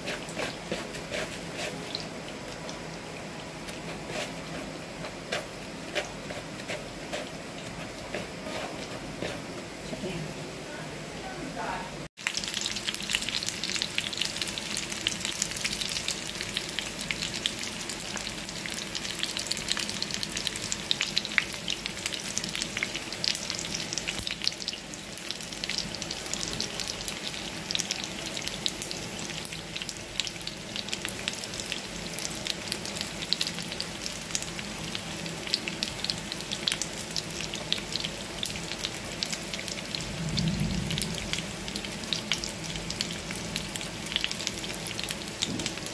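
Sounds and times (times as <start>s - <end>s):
chicken frying in oil: 0.0s - 10.0s, 11.6s - 45.9s.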